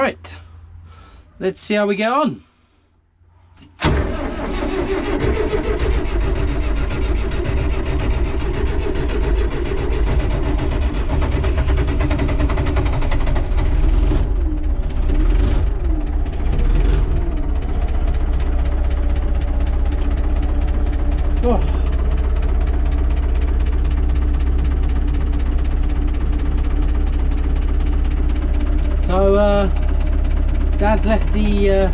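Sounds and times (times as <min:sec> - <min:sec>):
tractor engine running: 0:03.6 - 0:31.9.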